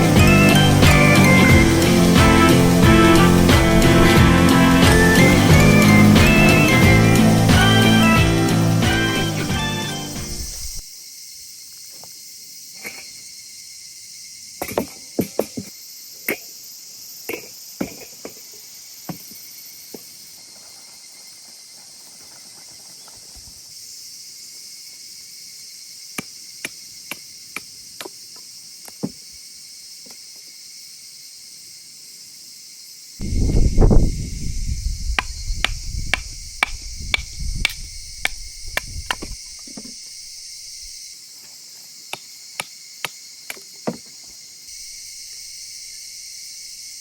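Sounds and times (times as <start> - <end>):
crickets and insects chirping: 0.0 - 47.0.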